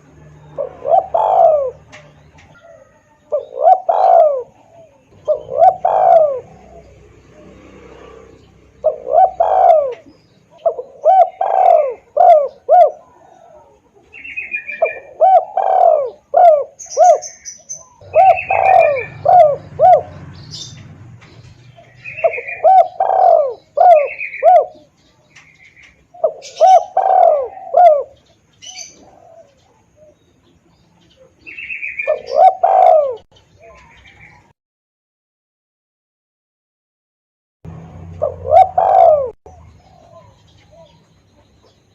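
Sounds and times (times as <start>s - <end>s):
dove cooing: 0.0s - 34.5s, 37.7s - 41.8s.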